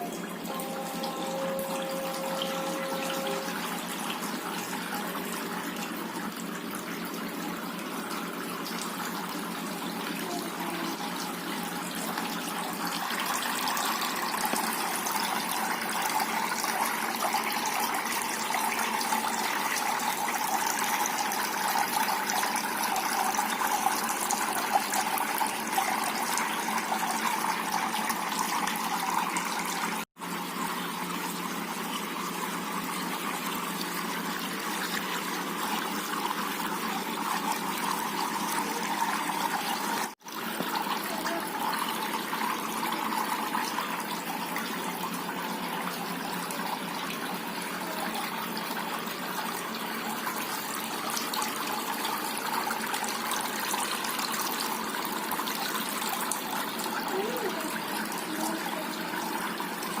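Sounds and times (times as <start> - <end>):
fountain water trickling: 0.0 - 60.0.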